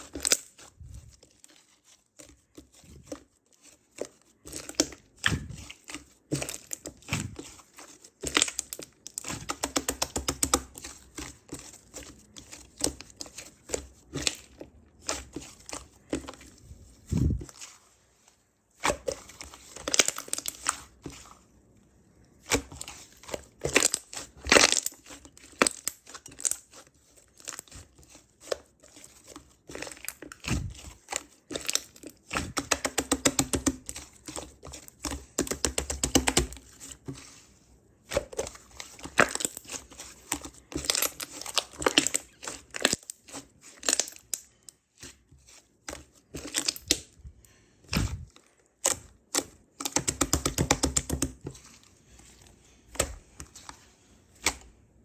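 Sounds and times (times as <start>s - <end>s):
slime being squished: 0.0s - 17.8s, 18.8s - 21.5s, 22.4s - 37.4s, 38.0s - 54.8s.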